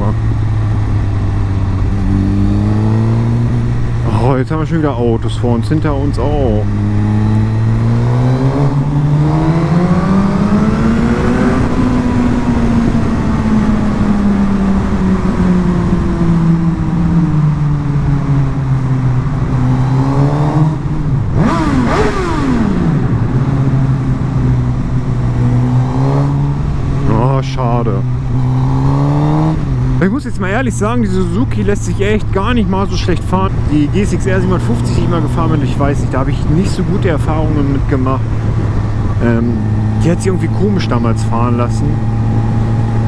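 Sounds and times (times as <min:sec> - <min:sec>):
motorcycle engine accelerating: 0:00.0 - 0:43.0.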